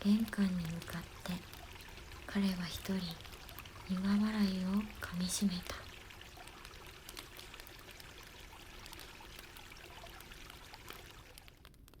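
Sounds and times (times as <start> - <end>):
small ticks: 0.0 - 12.0
water trickling: 0.0 - 12.0.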